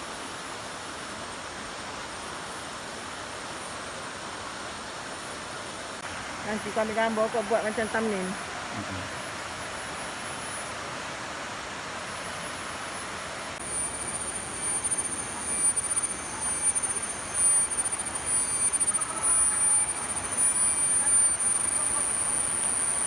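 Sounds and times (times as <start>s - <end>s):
crickets buzzing: 0.0s - 23.0s
flowing water rushing: 0.0s - 23.0s.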